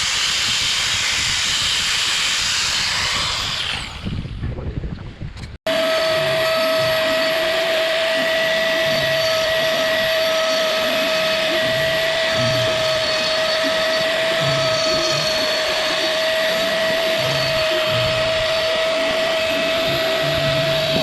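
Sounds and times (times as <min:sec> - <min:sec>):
power tool motor whining: 0:00.0 - 0:04.3, 0:05.7 - 0:21.0.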